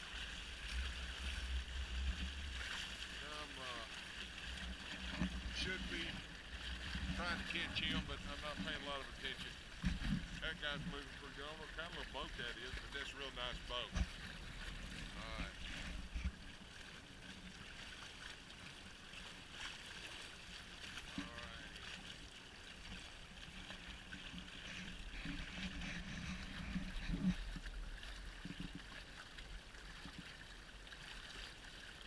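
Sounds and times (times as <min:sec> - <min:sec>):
water gurgling against hull: 0:00.0 - 0:32.0.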